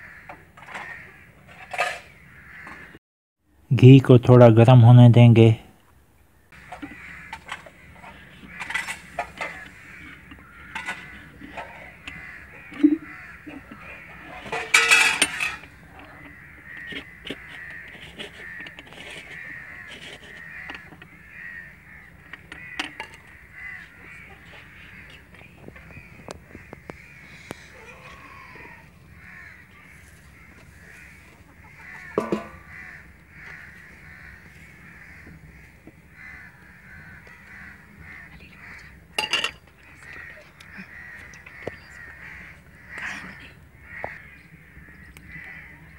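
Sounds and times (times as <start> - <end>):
crows cawing: 0.0 - 3.0, 6.4 - 45.9.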